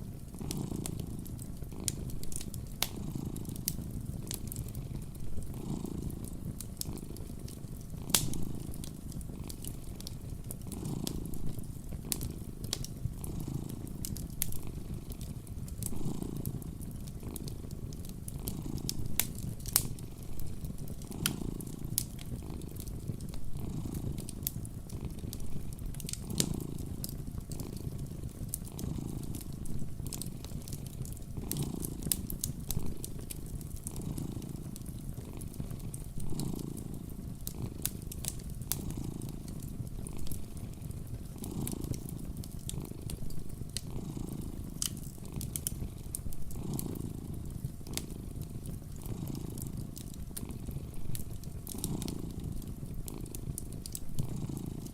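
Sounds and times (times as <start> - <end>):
cat purring: 0.0 - 54.9
fireplace fire crackling: 0.0 - 54.9.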